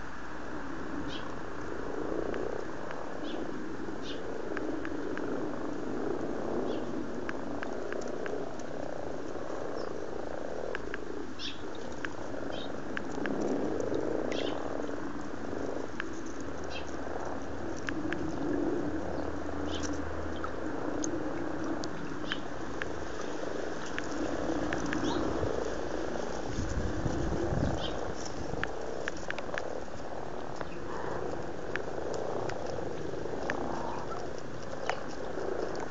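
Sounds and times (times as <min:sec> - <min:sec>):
frogs croaking: 0:00.0 - 0:35.9.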